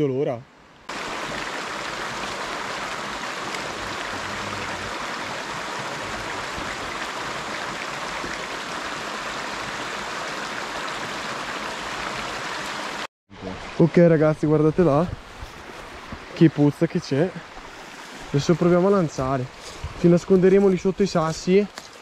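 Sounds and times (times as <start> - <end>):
stream rushing over rocks: 0.9 - 22.0.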